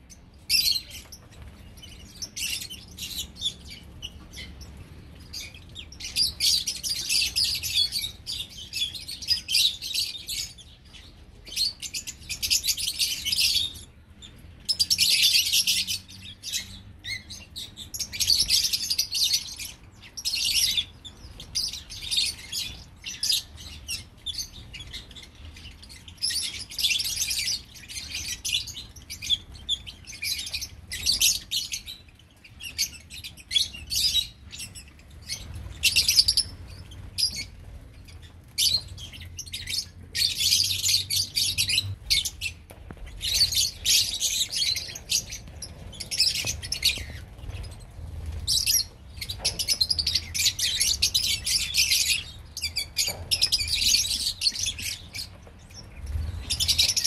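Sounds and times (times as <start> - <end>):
birds chattering with shrill chirps: 0.0 - 57.0.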